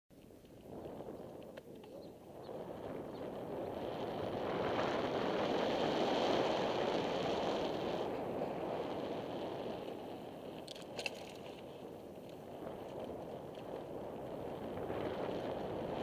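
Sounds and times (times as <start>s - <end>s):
wind rushing over microphone: 0.2s - 16.0s.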